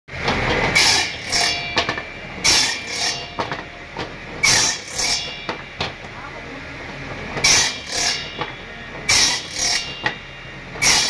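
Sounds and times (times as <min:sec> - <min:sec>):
table saw cutting wood: 0:00.1 - 0:11.0.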